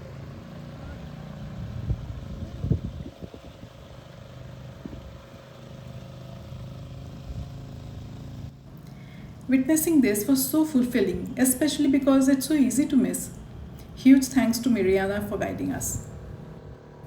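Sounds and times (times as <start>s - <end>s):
engine running low: 0.0s - 17.0s.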